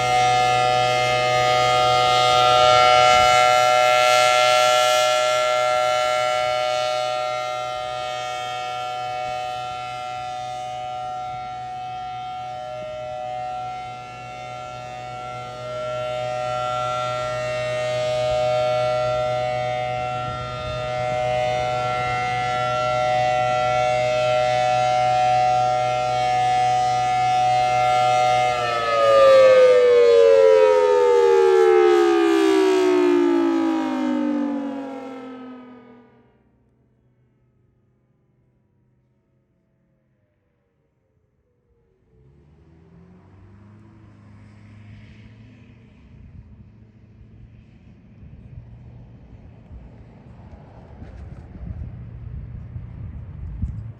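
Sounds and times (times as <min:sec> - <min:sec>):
warning siren steady tone: 0:00.0 - 0:36.6, 0:41.6 - 0:53.9.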